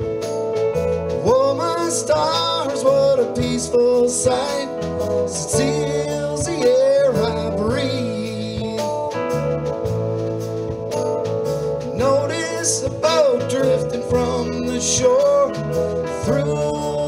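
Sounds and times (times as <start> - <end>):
song with gliding melody: 0.0 - 17.0.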